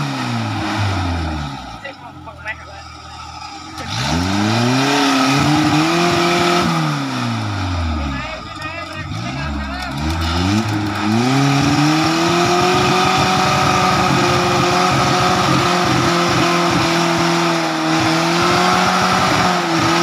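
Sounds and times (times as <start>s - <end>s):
jeep engine revving: 0.0s - 20.0s.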